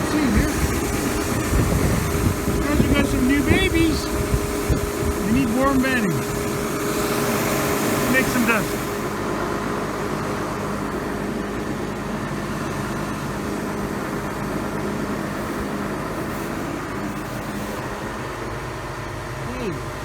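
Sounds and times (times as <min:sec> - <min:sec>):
straw bedding machine running: 0:00.0 - 0:20.0.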